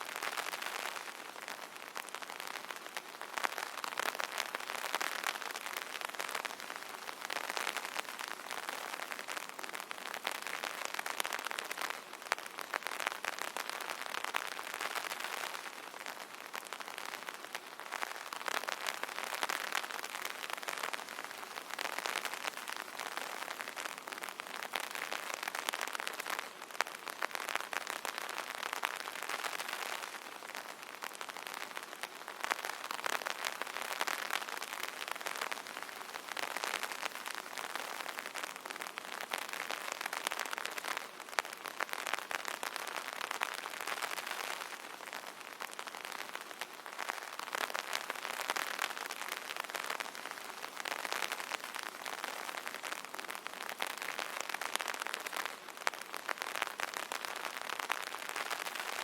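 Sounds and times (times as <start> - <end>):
rain drumming on an umbrella: 0.0 - 59.0.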